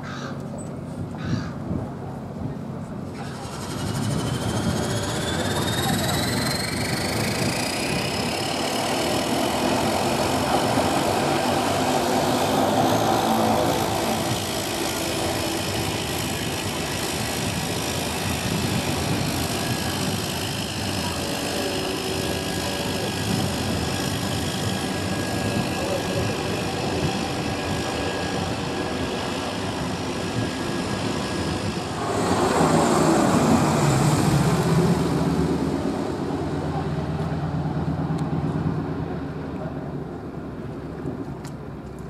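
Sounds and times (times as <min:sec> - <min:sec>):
turboprop engine starting: 0:03.0 - 0:39.5.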